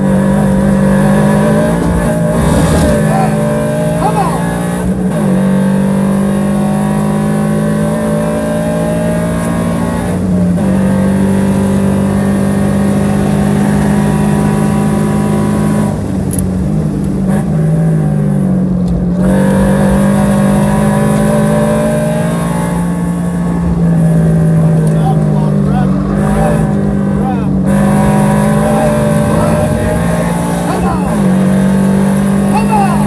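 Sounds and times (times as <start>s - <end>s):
car engine pulling hard: 0.0s - 33.0s.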